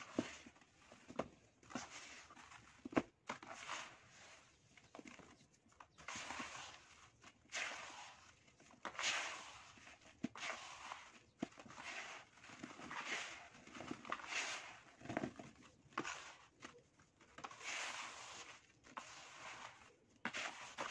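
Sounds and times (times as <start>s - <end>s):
sandy earth crunching by hand: 0.0s - 20.9s.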